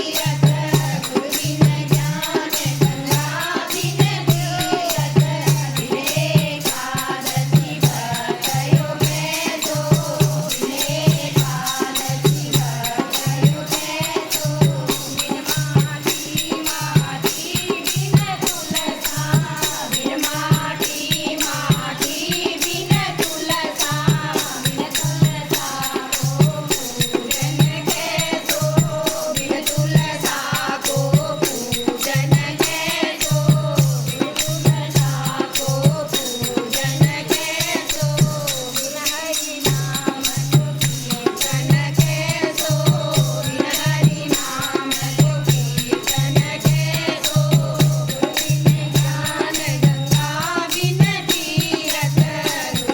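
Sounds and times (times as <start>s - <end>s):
group of voices singing: 0.0s - 52.9s
rattling hand percussion: 0.0s - 52.9s.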